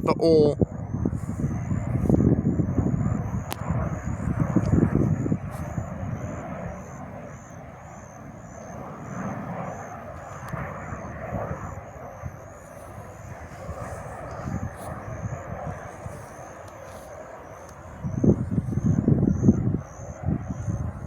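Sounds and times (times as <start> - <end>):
jet aircraft passing: 0.0 - 21.0.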